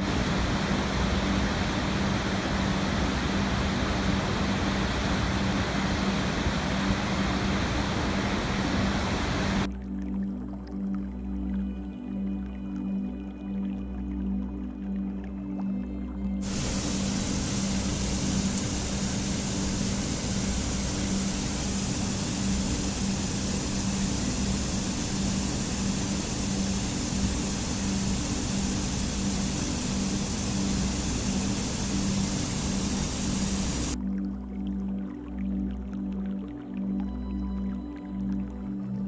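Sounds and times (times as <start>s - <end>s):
rushing water: 0.0s - 10.5s, 16.4s - 39.0s
low held background music tone: 0.0s - 39.0s.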